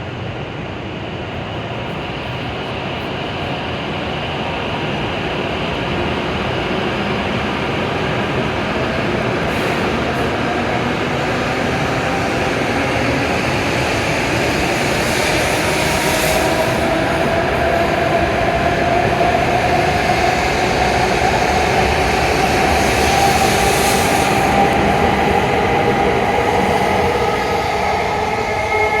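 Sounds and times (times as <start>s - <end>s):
train rolling rumble: 0.0s - 29.0s.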